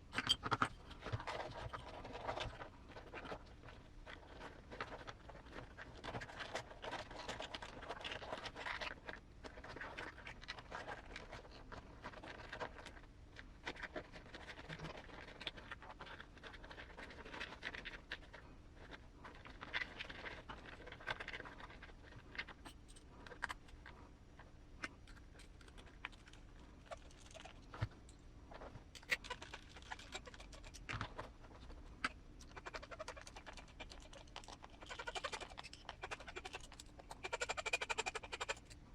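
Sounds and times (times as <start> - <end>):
scratching and rustling: 0.0 - 38.9.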